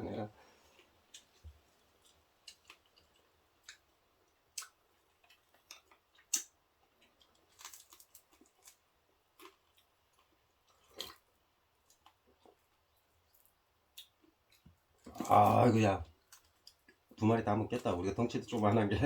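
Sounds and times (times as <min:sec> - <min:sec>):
chewing: 0:00.6 - 0:17.2.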